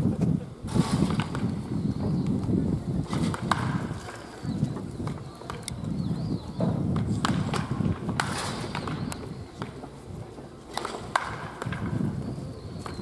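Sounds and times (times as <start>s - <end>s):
baseball bats cracking balls: 0.6s - 13.0s.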